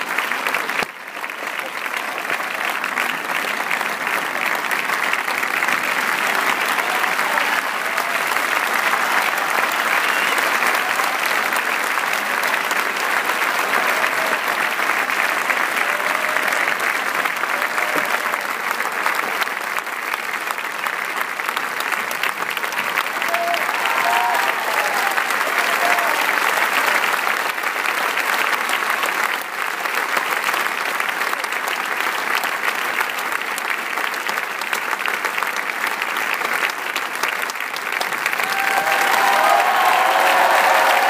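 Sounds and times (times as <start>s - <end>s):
large audience applauding: 0.0s - 41.0s.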